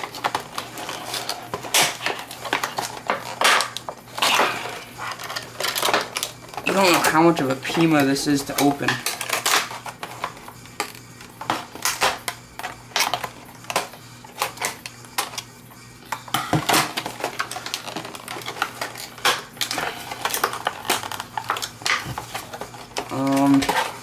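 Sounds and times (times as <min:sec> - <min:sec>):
plastic packaging crackling: 0:00.0 - 0:15.4, 0:16.1 - 0:24.0.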